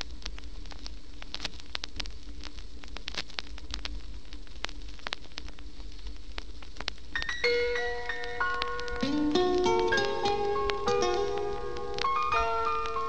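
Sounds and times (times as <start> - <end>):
vinyl hiss and crackles: 0.0 - 13.0.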